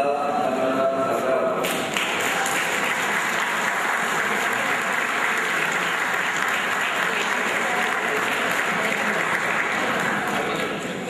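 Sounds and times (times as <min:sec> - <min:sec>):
people applauding: 0:01.6 - 0:11.0.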